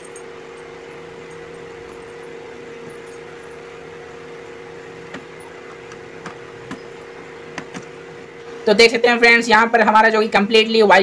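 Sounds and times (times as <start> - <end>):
fan motor hum: 0.0 - 11.0.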